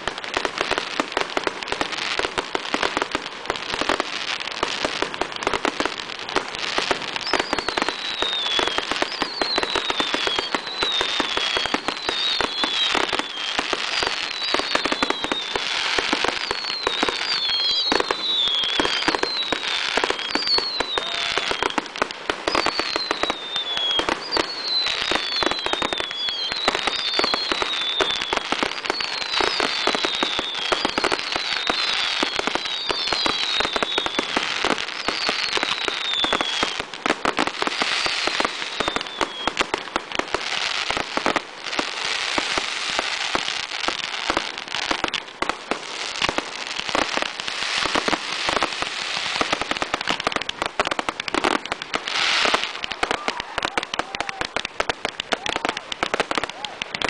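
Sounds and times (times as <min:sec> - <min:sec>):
fireworks bangs and crackles: 0:00.0 - 0:57.0
falling firework whistles: 0:06.6 - 0:54.6.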